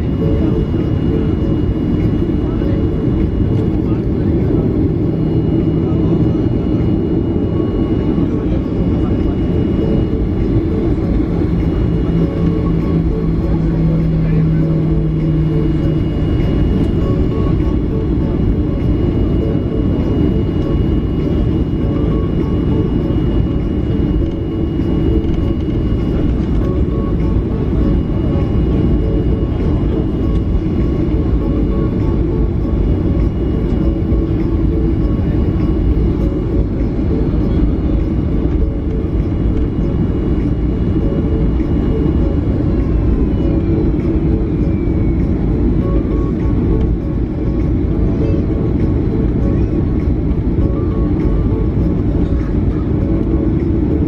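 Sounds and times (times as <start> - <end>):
faint high whine: 0.0 - 54.0
jet engine rumble: 0.0 - 54.0.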